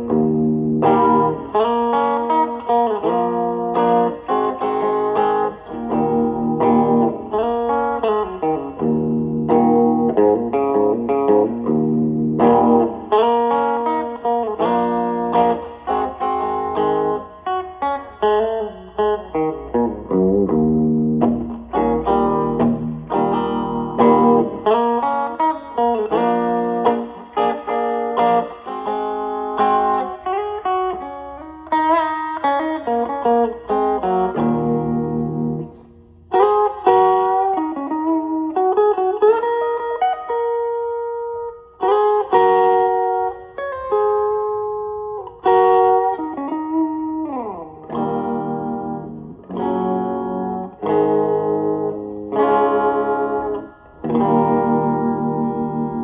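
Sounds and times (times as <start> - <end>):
overdriven electric guitar blues lead: 0.0 - 56.0.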